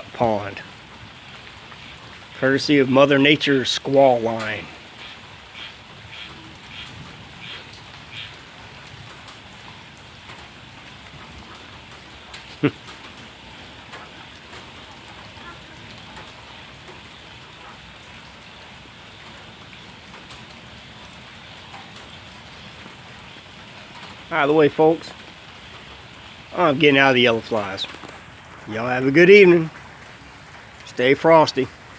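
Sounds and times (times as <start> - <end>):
rain pattering on puddles: 0.0 - 31.9.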